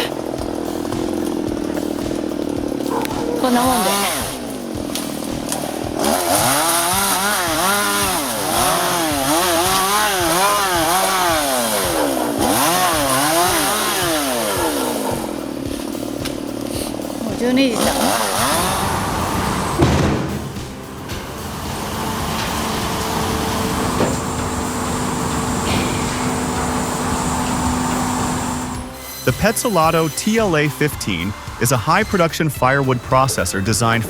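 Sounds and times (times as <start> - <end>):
chainsaw engine revving: 0.0 - 30.6.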